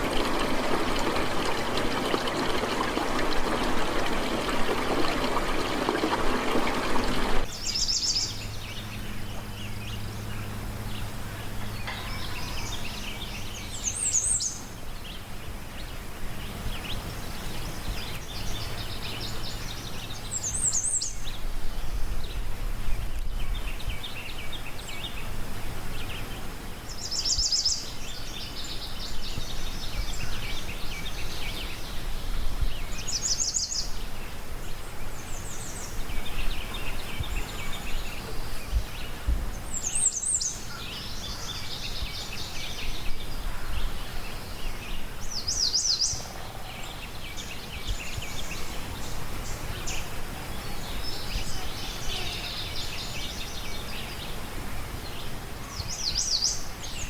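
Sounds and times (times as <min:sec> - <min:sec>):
outdoor background hiss: 0:00.0 - 0:57.0
songbirds chirping and trilling: 0:00.0 - 0:57.0.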